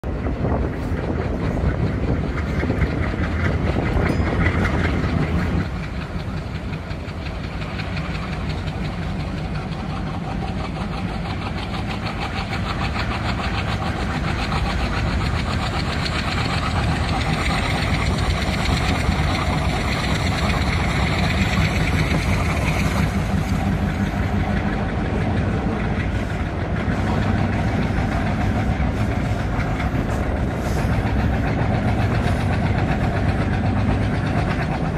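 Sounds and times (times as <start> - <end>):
model locomotive engine rumble: 0.0 - 34.9
wheels rattling on track: 0.0 - 34.9.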